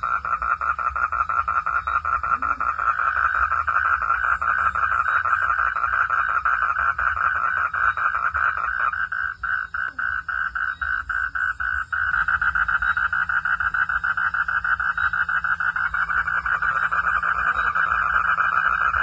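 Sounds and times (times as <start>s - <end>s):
frog chorus: 0.0s - 19.0s.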